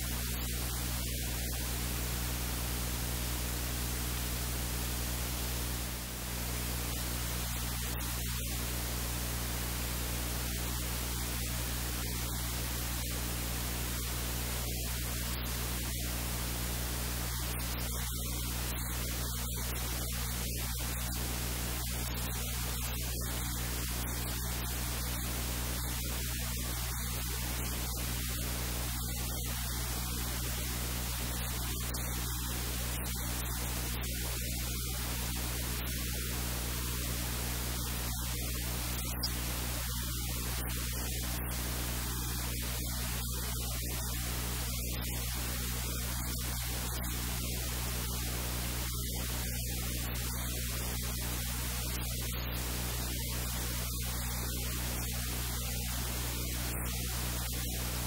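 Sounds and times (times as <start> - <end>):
low electrical hum: 0.0 - 58.0
steady static hiss: 0.0 - 58.0.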